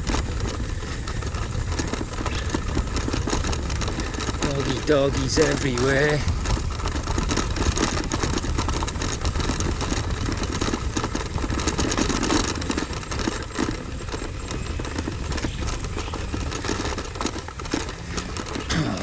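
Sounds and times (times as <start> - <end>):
bicycle tyres crunching on dirt: 0.0 - 19.0
bike rattling: 0.0 - 19.0.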